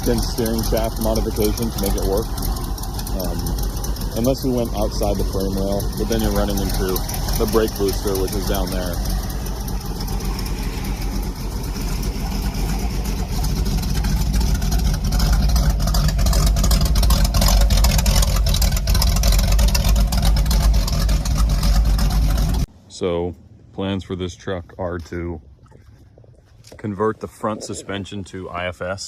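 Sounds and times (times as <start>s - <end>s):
car engine idling lumpily: 0.0s - 29.0s.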